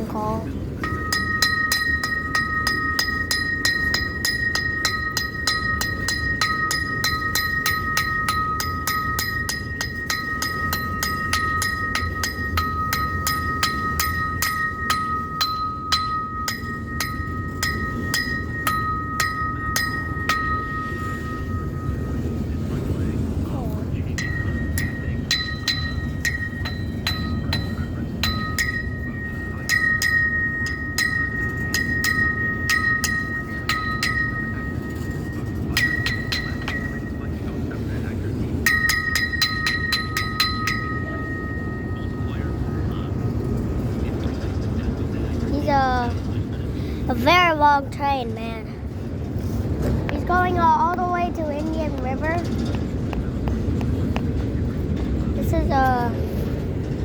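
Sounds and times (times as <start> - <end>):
passing freight train rumble: 0.0 - 57.0
railroad crossing bell ringing: 0.2 - 57.0.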